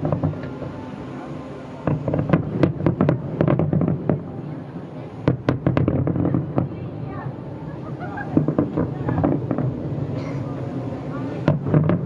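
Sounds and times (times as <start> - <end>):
distant fireworks bursting: 0.0 - 7.0, 8.2 - 10.2, 10.8 - 12.0.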